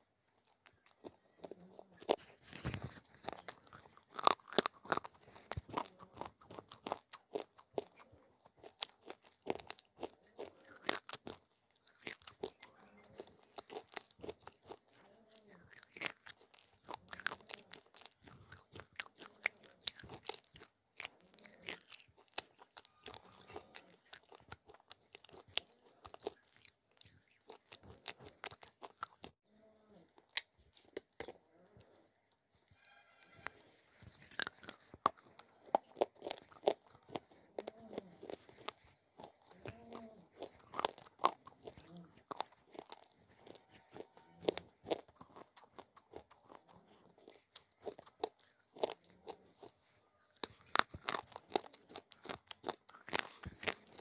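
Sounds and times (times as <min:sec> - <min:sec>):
chewing hard gritty crunches: 0:00.0 - 0:54.0.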